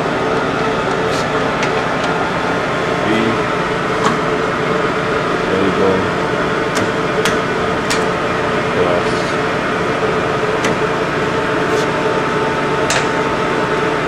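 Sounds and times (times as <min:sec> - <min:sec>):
lathe humming: 0:00.0 - 0:14.0.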